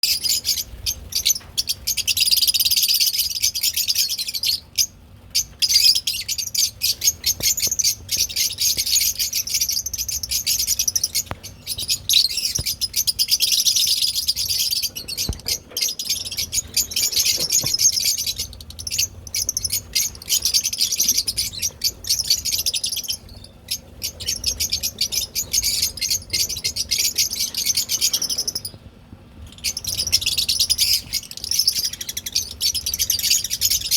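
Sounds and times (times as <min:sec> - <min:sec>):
birds chattering high-pitched chirps: 0:00.0 - 0:33.9.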